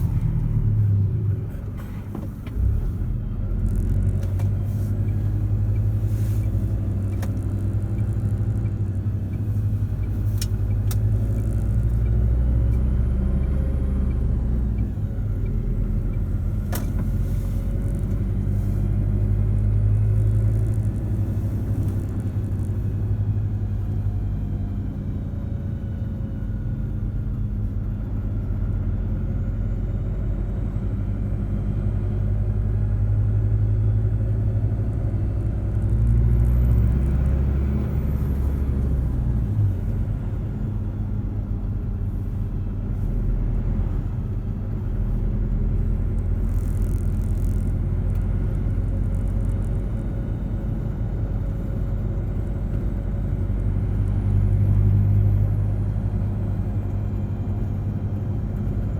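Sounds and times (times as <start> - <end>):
road traffic rumble: 0.0 - 58.9.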